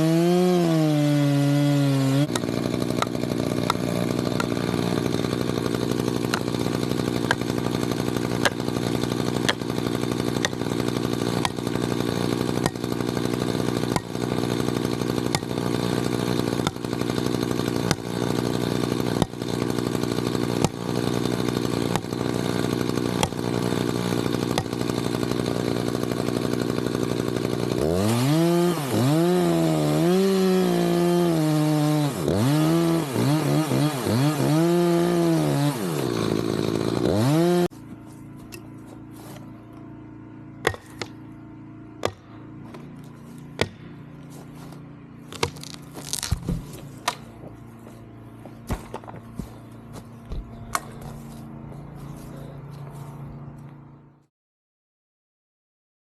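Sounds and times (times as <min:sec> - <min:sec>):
chainsaw revving and cutting wood: 0:00.0 - 0:54.3.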